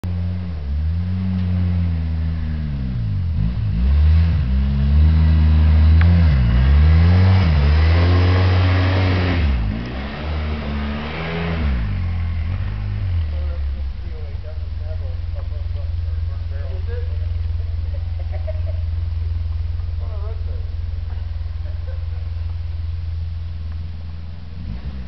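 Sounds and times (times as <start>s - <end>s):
snow plow engine: 0.0s - 25.0s.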